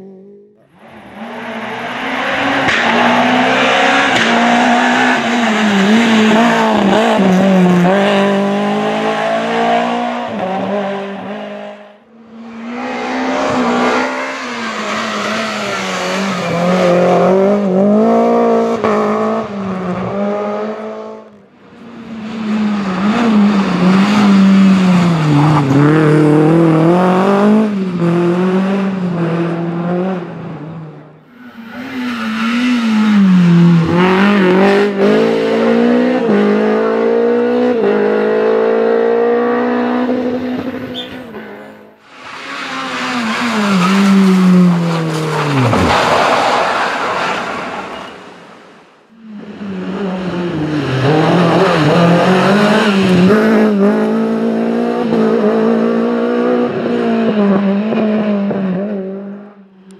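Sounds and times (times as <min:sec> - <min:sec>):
rally car engines at full throttle: 0:00.0 - 0:59.9.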